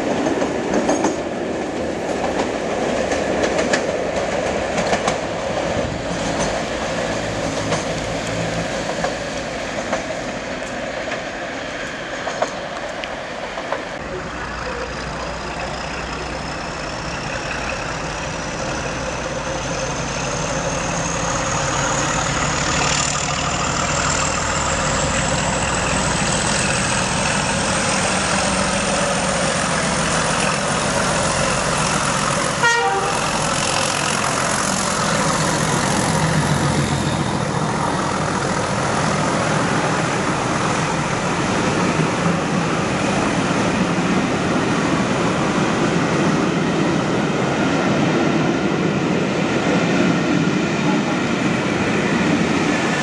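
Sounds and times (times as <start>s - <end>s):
diesel train running: 0.0s - 53.0s.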